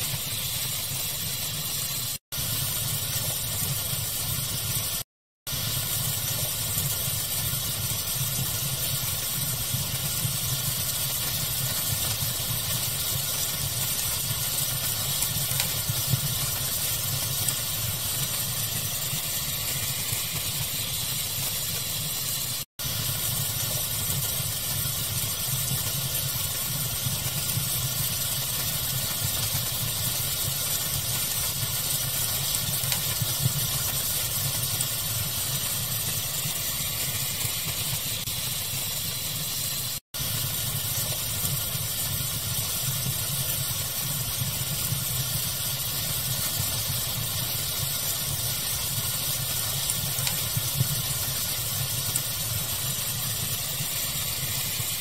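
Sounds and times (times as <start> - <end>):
faint fire crackling and pops: 0.0 - 55.0
steady fire hiss: 0.0 - 55.0.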